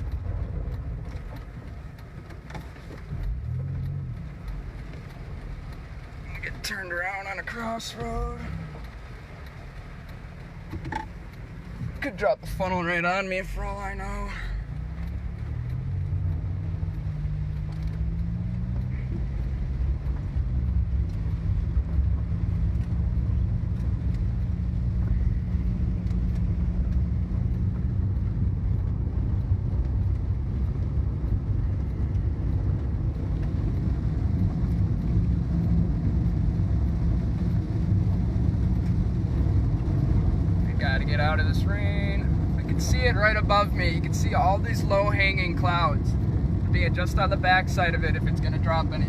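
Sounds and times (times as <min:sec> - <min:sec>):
car engine and road rumble: 0:00.0 - 0:49.0
rain ticking on car: 0:00.0 - 0:49.0.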